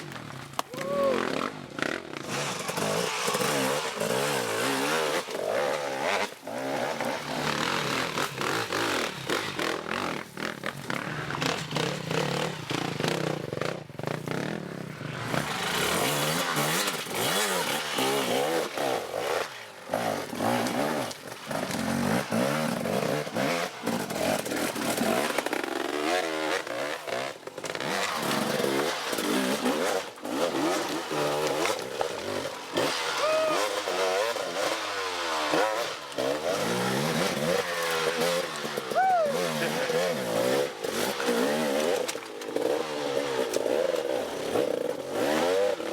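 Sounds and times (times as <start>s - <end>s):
motorcycle engines revving: 0.1s - 45.9s.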